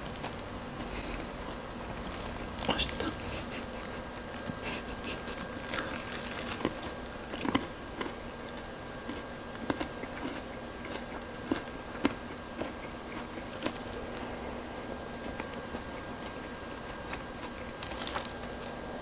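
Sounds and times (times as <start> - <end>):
crunchy chewing of fried chicken: 0.0 - 19.0.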